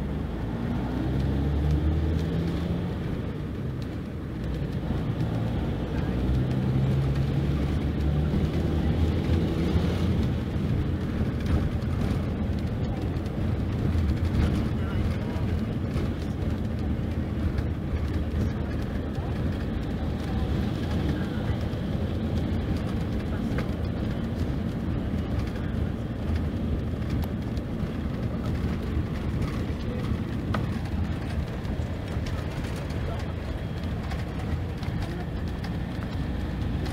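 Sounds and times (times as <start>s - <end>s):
diesel engine drone: 0.0s - 36.9s.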